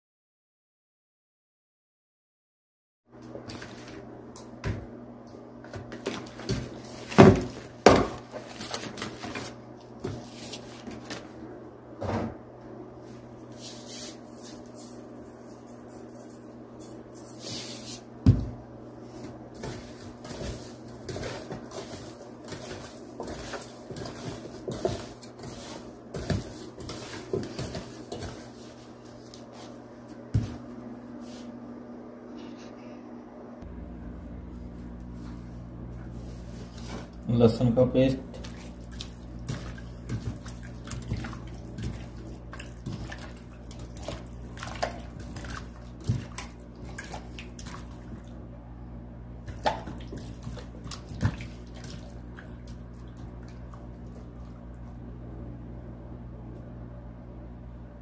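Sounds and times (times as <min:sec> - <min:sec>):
steady low hum: 0:03.2 - 0:58.0.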